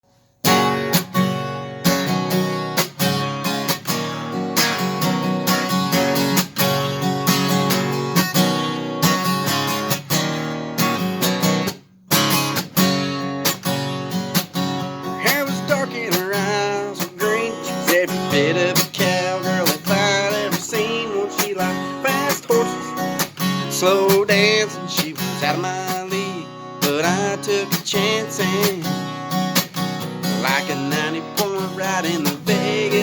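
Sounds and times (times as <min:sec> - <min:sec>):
acoustic guitar strumming: 0:00.1 - 0:33.0.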